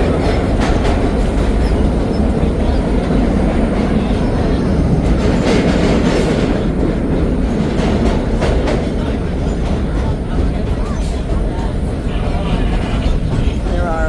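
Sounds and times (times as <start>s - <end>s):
subway wheels rumbling on rail: 0.0s - 14.0s.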